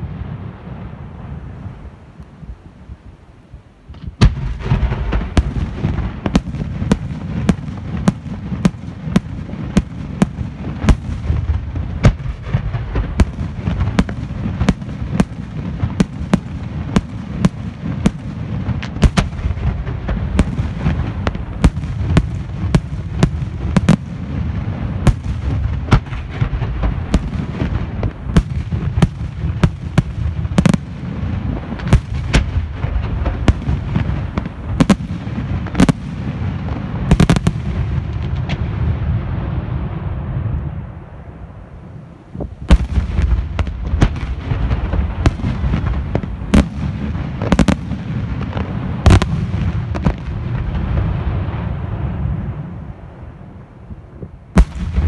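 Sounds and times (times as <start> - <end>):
fireworks bursting: 3.9 - 41.6, 42.2 - 55.0.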